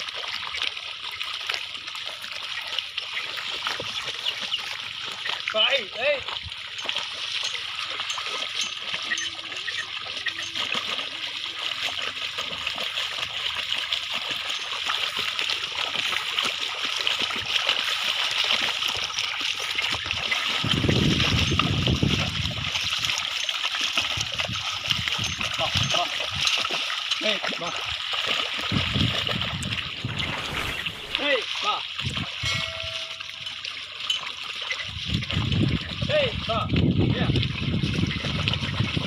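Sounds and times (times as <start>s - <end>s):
water and mud splashing: 0.0s - 39.0s.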